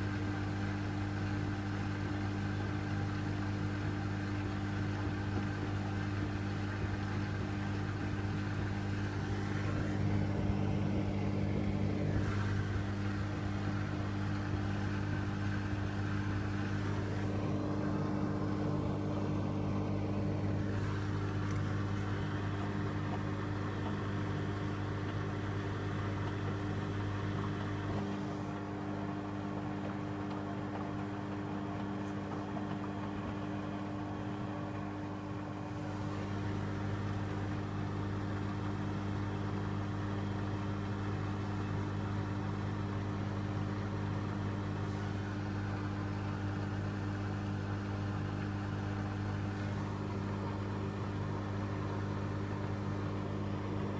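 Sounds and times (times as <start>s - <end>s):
washing machine motor hum: 0.0s - 53.9s.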